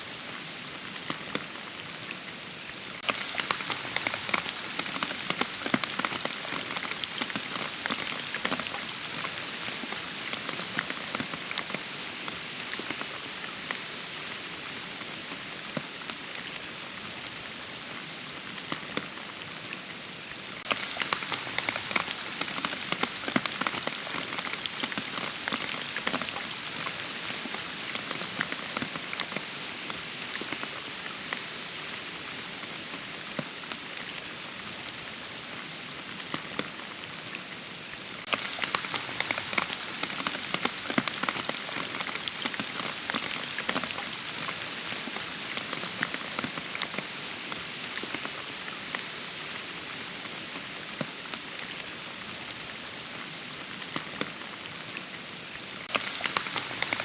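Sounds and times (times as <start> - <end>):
steady rain in forest: 0.0 - 57.0.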